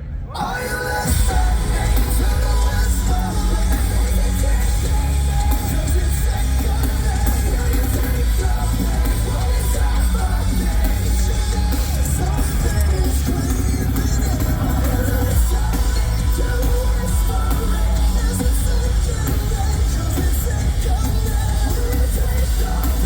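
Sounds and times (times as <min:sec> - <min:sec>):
sung and shouted vocals: 0:00.0 - 0:23.0
metal band playing live: 0:00.4 - 0:23.0.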